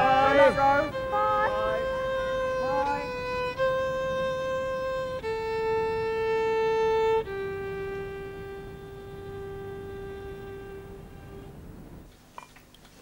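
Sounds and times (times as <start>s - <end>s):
solo violin playing: 0.0s - 12.0s.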